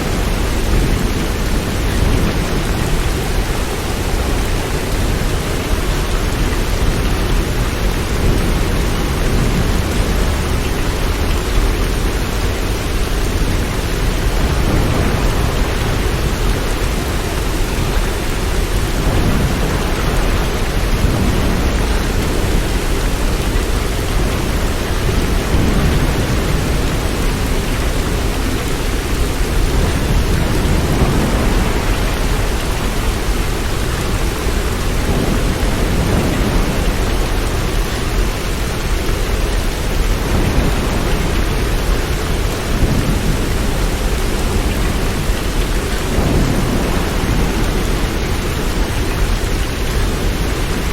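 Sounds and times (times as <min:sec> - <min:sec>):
heavy rain hiss: 0:00.0 - 0:50.9.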